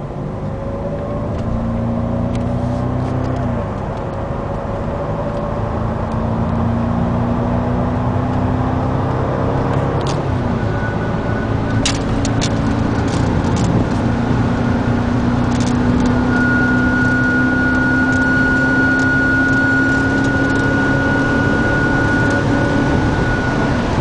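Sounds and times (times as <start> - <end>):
engine and road noise: 0.0 - 24.0.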